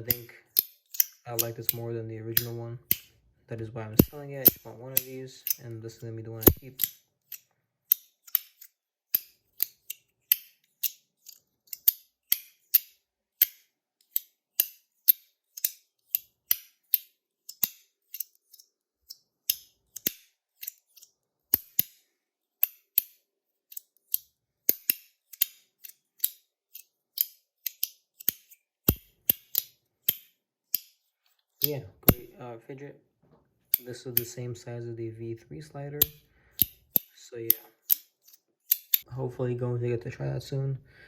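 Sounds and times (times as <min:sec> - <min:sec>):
fidget slider clicking: 0:00.0 - 0:03.1, 0:04.0 - 0:32.3, 0:36.0 - 0:39.1.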